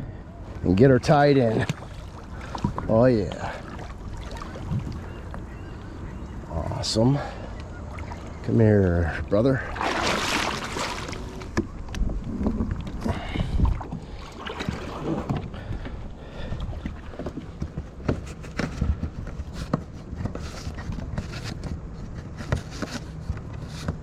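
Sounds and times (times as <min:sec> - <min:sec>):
wind rumble on microphone: 0:00.0 - 0:07.0, 0:09.5 - 0:24.0
water sloshing: 0:00.5 - 0:21.5.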